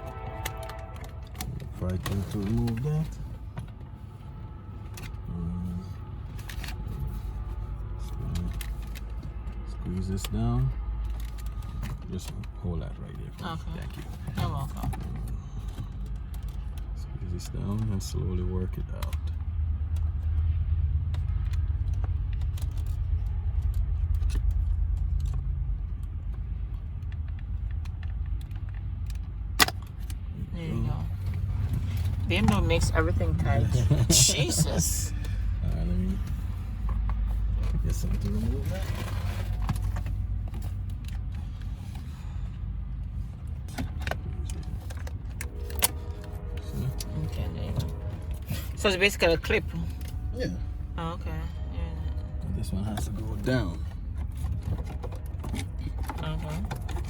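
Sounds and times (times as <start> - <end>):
car engine idling: 0.0 - 57.0
steady low rumble: 0.0 - 57.0.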